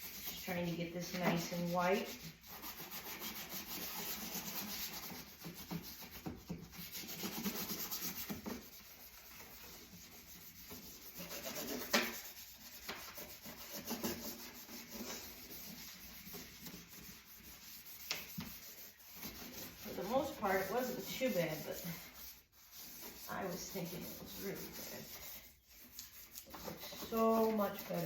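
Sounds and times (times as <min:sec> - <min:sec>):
scrubbing strokes: 0:00.0 - 0:28.0.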